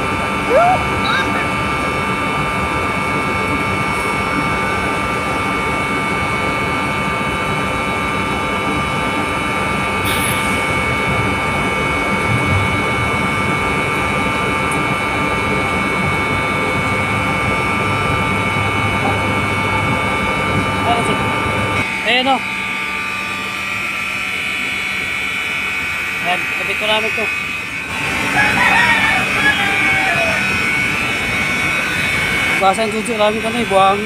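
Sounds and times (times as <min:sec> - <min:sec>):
high-pitched machinery whine: 0:00.0 - 0:34.0
machinery drone: 0:00.0 - 0:34.0.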